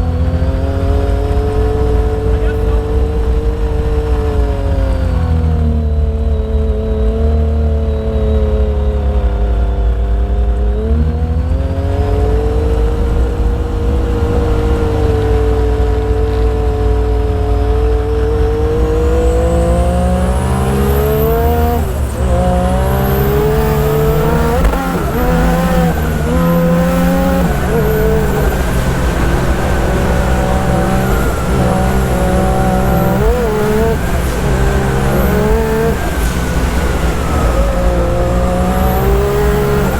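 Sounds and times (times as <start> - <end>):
engine running hard: 0.0 - 39.9
high turbo whine: 0.0 - 39.9.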